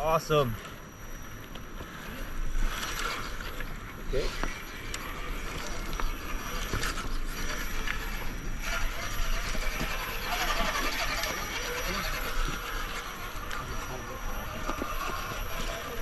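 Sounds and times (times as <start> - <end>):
toy truck motor whirring: 1.9 - 16.0.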